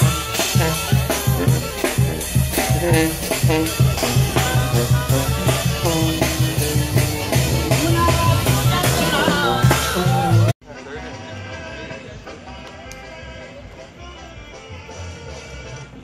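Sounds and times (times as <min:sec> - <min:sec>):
music with steady drum beat: 0:00.0 - 0:16.0.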